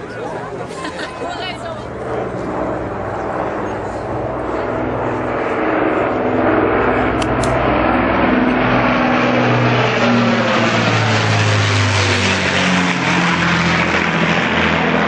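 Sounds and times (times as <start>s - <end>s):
propeller plane drone overhead: 0.0s - 15.0s.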